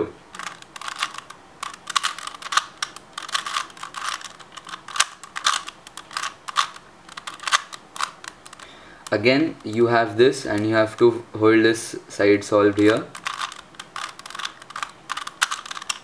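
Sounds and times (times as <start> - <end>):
puzzle cube clicking: 0.3 - 11.1, 12.7 - 16.0.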